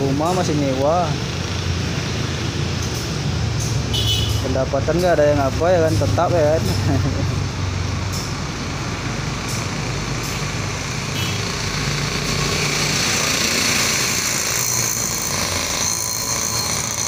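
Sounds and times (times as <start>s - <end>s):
motor vehicles running: 0.0s - 17.0s.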